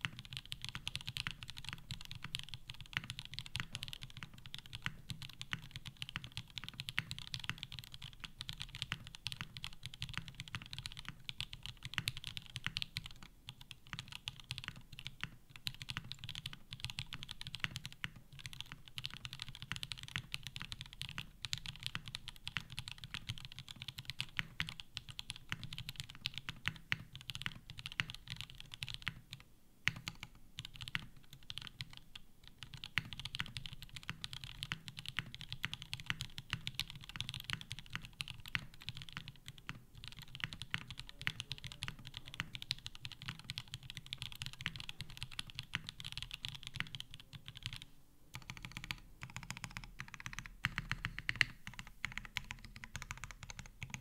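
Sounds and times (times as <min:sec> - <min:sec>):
mechanical keyboard typing: 0:00.0 - 0:54.0.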